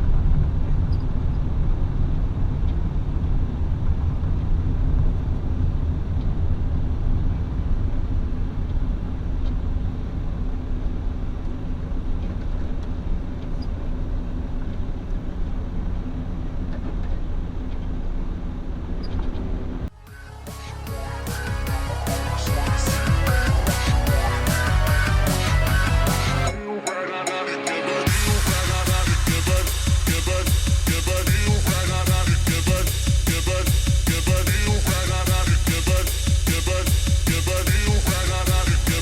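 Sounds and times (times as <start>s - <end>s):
car engine and road rumble: 0.0s - 26.5s, 28.1s - 39.0s.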